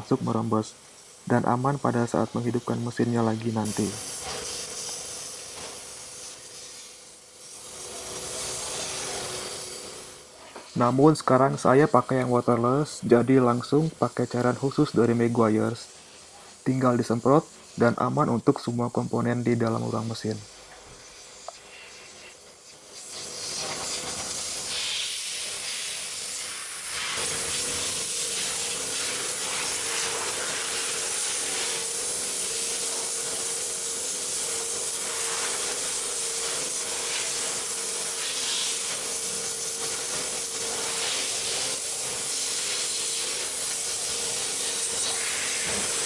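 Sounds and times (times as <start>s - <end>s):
pressure washer jet hissing: 0.0s - 46.0s
steady hum: 0.0s - 46.0s.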